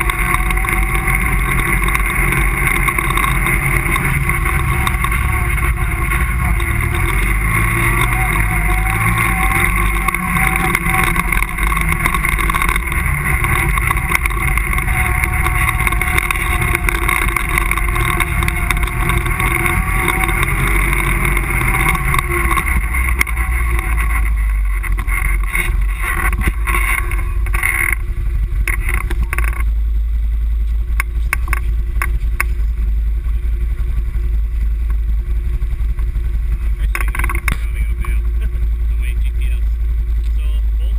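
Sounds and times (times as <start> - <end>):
rattling: 0.0 - 29.8, 30.9 - 38.9
atv engine rumbling: 0.0 - 40.9.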